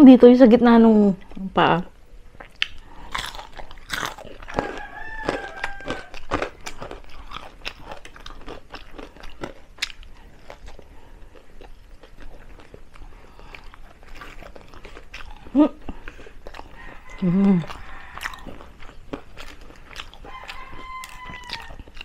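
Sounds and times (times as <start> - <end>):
wet chewing: 2.3 - 22.0
crispy crunching and cracks: 2.4 - 22.0.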